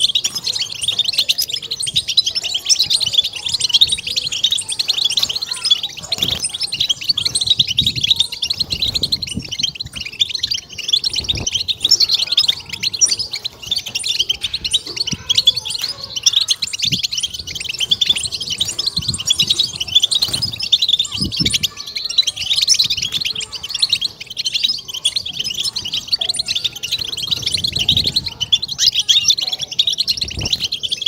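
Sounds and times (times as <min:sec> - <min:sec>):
finch twittering song: 0:00.0 - 0:31.0.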